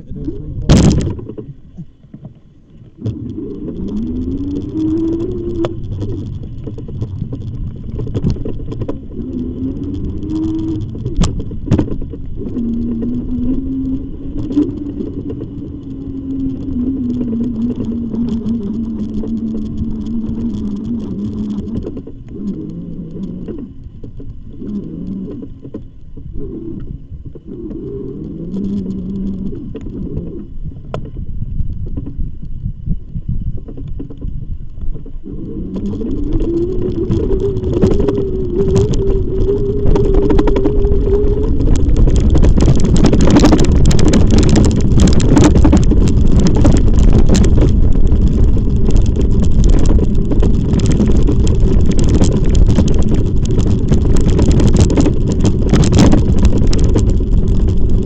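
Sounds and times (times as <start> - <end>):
e-bike motor whine: 0.0 - 58.0
wind rumbling on microphone: 0.0 - 58.0.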